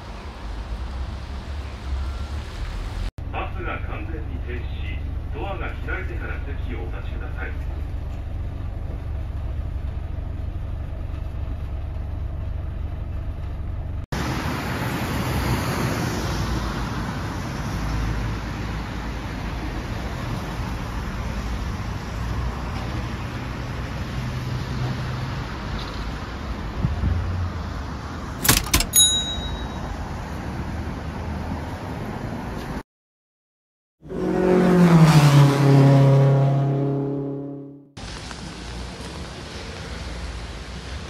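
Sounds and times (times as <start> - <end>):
road traffic noise: 0.0 - 32.8, 34.0 - 41.0.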